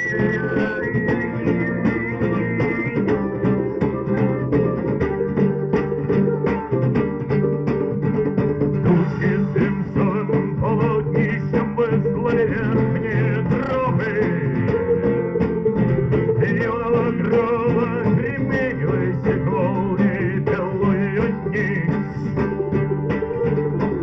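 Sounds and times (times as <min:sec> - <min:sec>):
wavering melody line: 0:00.0 - 0:19.9, 0:20.5 - 0:24.0
guitar: 0:00.0 - 0:24.0
steady beat: 0:00.0 - 0:24.0.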